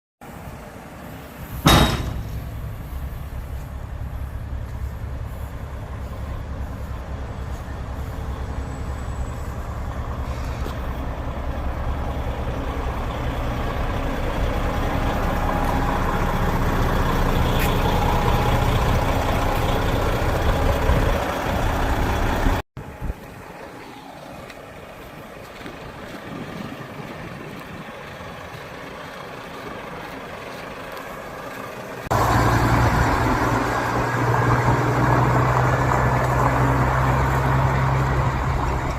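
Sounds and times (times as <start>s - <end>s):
diesel truck engine running: 1.0s - 38.9s.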